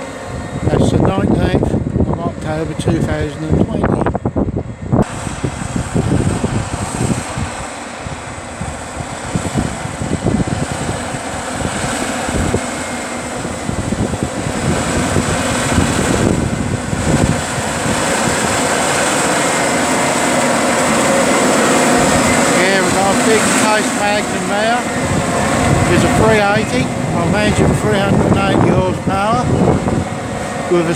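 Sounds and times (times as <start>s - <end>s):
tractor diesel engine droning: 0.0s - 30.9s.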